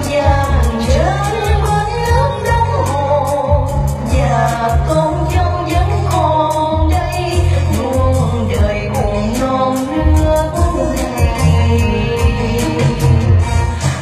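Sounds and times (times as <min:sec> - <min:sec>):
pop song over sound system: 0:00.0 - 0:14.0.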